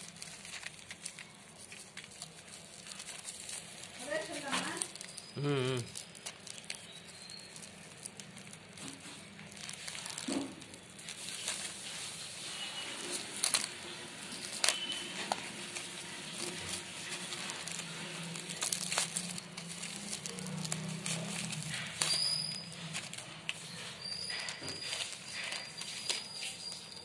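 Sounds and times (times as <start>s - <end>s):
bubble wrap crinkling: 0.0s - 27.0s
bubble wrap snapping: 0.0s - 27.0s.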